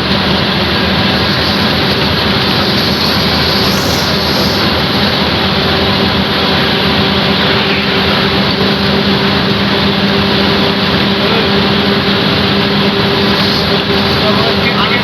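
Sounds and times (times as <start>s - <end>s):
road and wind noise: 0.0s - 15.0s
vehicle engine hum: 0.0s - 15.0s.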